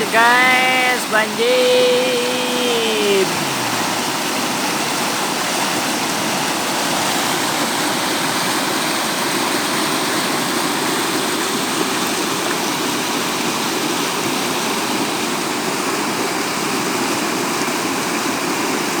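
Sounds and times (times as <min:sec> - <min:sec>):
rushing floodwater: 0:00.0 - 0:19.0.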